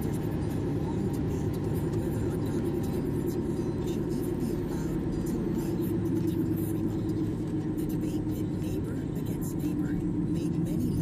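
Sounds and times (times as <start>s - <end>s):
car cabin road drone: 0.0s - 11.0s.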